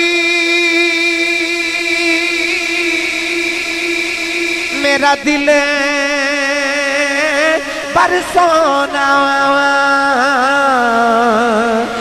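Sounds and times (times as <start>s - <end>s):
man singing a long held note: 0.0s - 12.0s.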